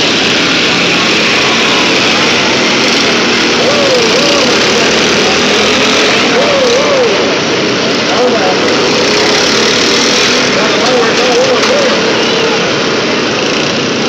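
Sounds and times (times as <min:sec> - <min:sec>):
crowd shouting: 0:00.0 - 0:14.0
lawn mower engines running: 0:00.0 - 0:14.0.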